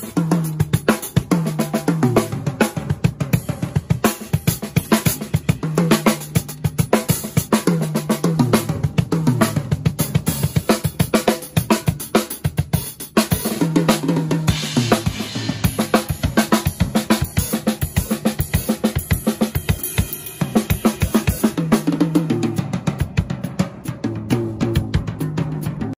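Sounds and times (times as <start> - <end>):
drum kit fast groove: 0.0 - 26.0.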